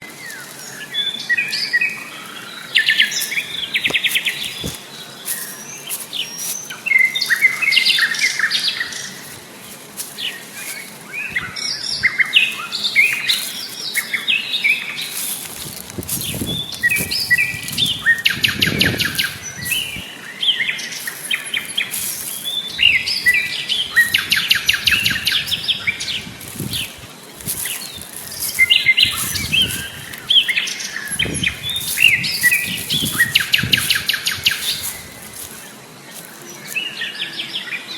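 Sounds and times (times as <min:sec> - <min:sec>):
birds chirping and trilling: 0:00.0 - 0:37.9.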